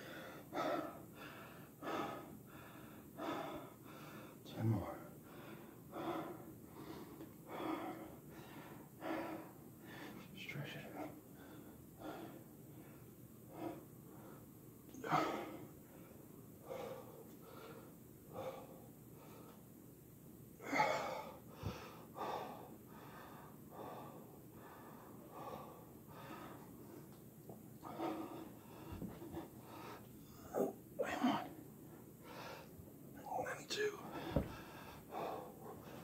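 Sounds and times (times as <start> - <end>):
man breathing hard and gasping: 0.0 - 4.4, 5.2 - 10.3, 11.0 - 19.6, 20.6 - 27.2, 27.8 - 31.6, 32.2 - 36.0.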